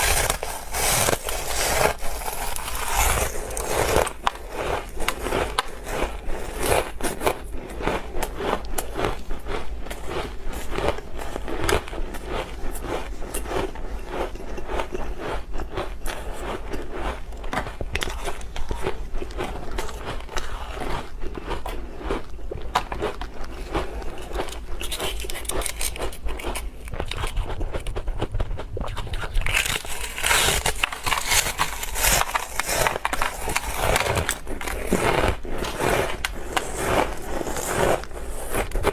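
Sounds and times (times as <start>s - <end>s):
ice chips being chewed: 0.0s - 38.9s.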